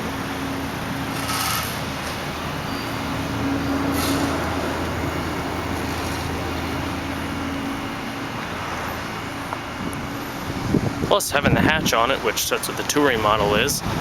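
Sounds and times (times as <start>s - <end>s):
low engine hum: 0.0s - 14.0s
traffic noise: 0.0s - 14.0s.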